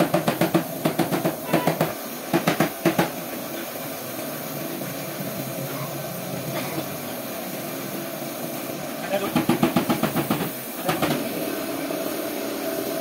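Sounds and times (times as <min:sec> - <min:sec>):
paint spray gun hissing: 0:00.0 - 0:13.0.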